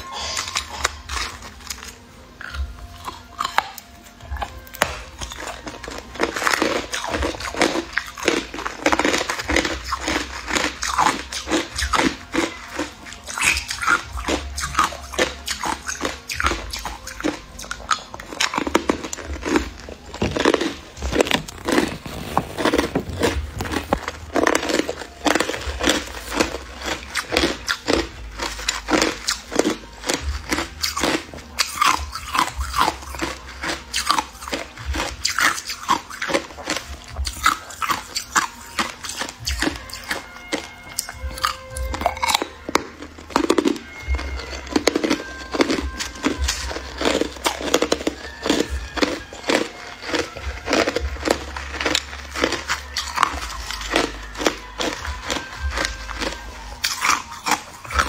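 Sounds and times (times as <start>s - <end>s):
crunching ice between teeth: 0.0s - 58.0s.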